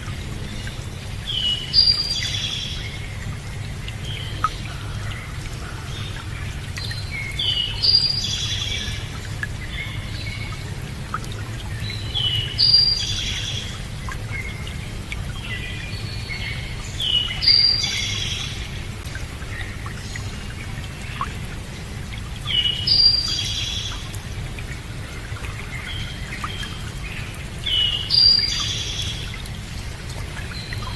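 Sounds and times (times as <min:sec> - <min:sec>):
running water: 0:00.0 - 0:30.9.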